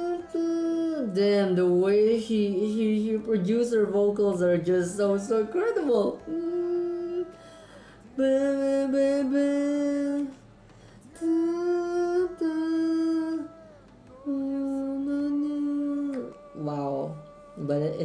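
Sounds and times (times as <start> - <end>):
woman singing a slow ballad: 0.0 - 18.0.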